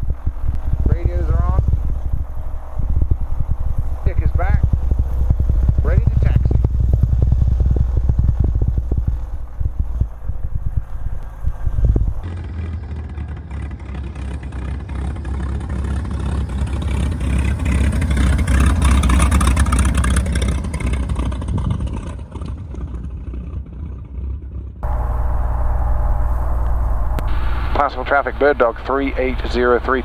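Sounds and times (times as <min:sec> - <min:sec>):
engine hum in cockpit: 0:00.0 - 0:30.0
propeller plane taxiing: 0:00.0 - 0:30.0.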